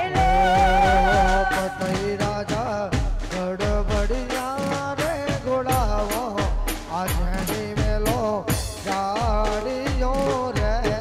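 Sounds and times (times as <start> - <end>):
deep drum beats: 0.0 - 11.0.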